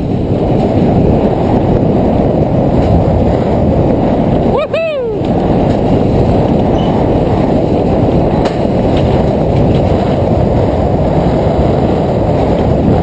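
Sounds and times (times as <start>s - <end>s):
coaster car rumbling on track: 0.0s - 13.0s
wind buffeting microphone: 0.0s - 13.0s.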